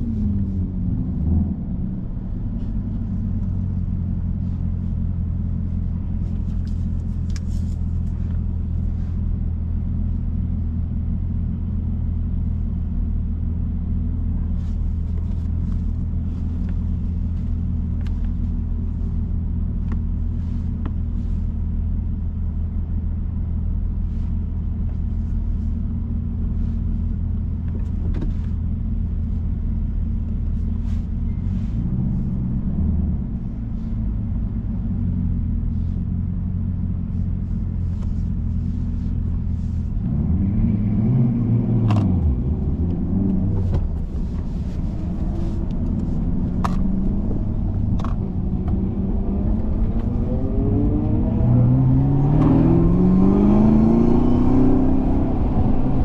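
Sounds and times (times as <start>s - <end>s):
engine idling low rumble: 0.0s - 56.0s.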